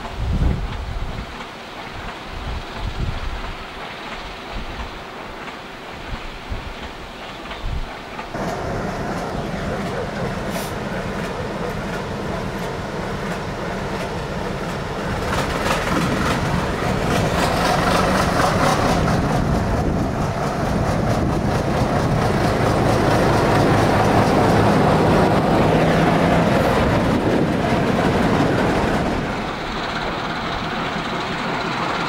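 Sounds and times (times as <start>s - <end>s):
train running past: 0.0s - 32.0s.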